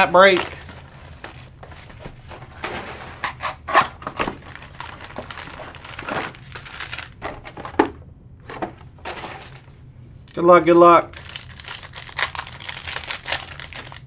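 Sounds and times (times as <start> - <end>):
card pack wrappers crinkling: 0.0 - 7.8, 8.5 - 9.8, 10.9 - 14.0.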